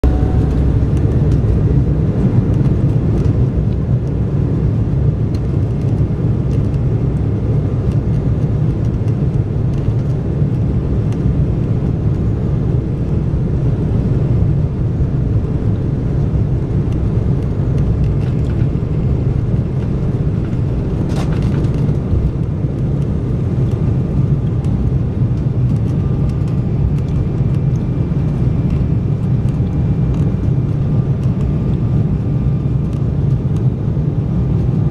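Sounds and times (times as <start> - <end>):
airliner engine rumble in cabin: 0.0 - 34.9.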